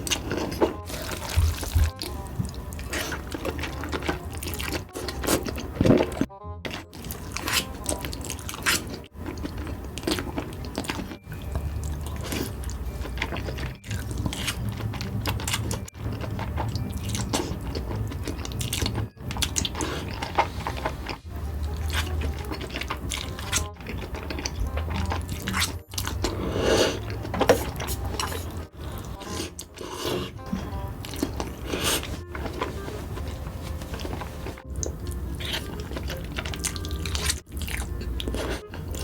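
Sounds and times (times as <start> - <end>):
person biting and chewing noodles: 0.0 - 39.0.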